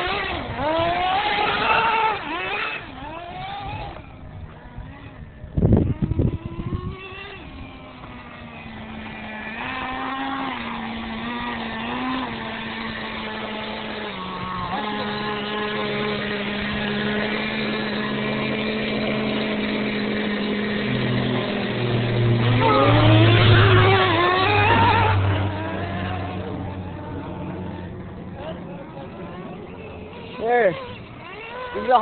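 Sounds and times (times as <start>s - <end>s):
nitro engine running and revving: 0.0s - 32.0s.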